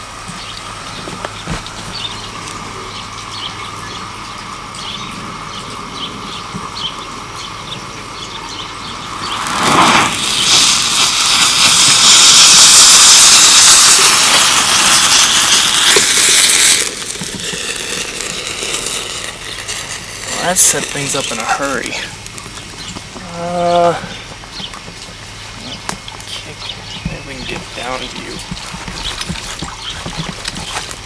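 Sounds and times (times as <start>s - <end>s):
burning noise: 0.0s - 31.0s
thermite rushing hiss: 0.0s - 31.0s.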